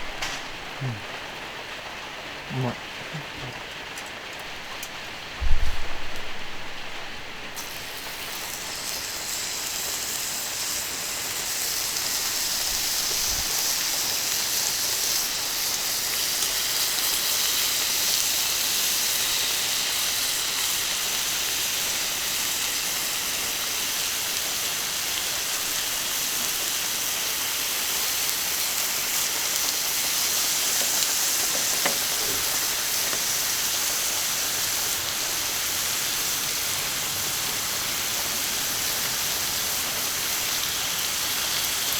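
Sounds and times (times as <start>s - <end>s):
steak sizzling on a griddle: 6.7s - 41.9s.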